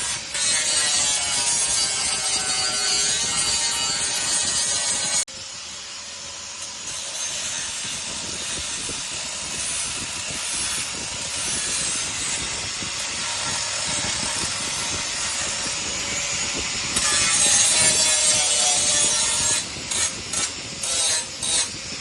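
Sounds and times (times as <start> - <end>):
welding arc sizzling: 0.0 - 22.0.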